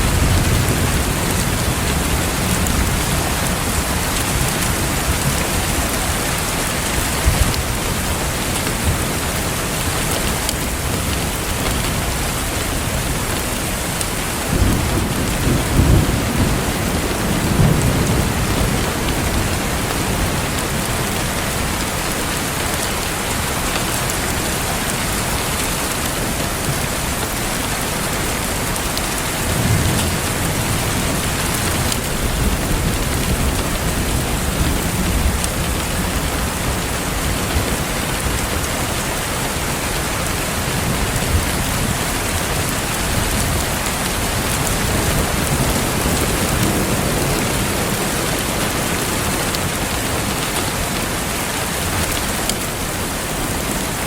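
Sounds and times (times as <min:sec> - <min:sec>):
thunder rumbling: 0:00.0 - 0:22.4, 0:28.4 - 0:52.2
rain falling on a surface: 0:00.0 - 0:54.0.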